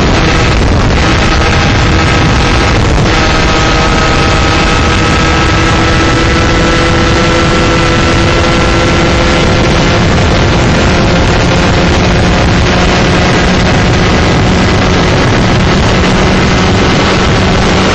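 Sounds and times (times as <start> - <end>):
kart engine at speed: 0.0 - 17.9
wind rush: 0.0 - 17.9.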